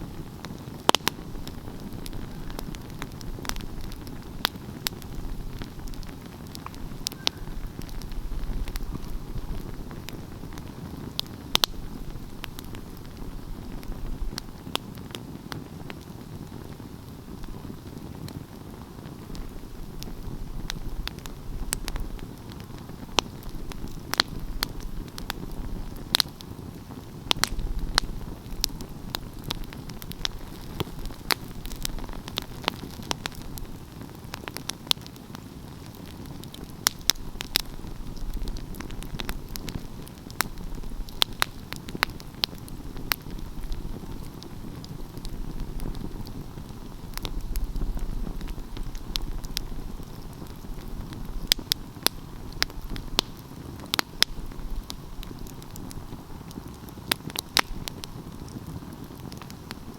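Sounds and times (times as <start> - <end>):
low rumble of flames: 0.0 - 59.9
wood fire pops and snaps: 0.1 - 18.4, 19.0 - 59.9.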